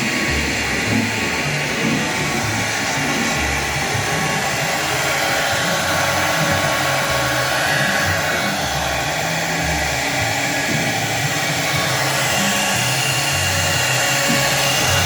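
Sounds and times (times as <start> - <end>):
router spindle whooshing: 0.0 - 15.0.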